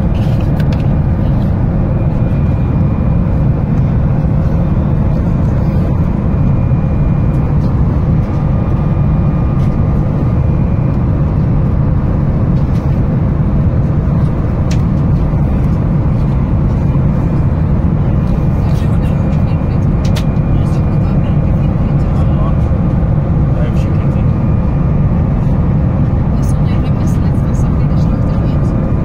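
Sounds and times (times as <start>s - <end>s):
airliner cabin engine drone: 0.0s - 29.0s.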